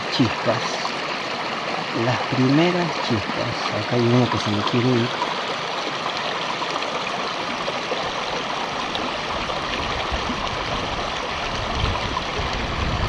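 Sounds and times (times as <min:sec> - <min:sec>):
river water running over rocks: 0:00.0 - 0:13.0.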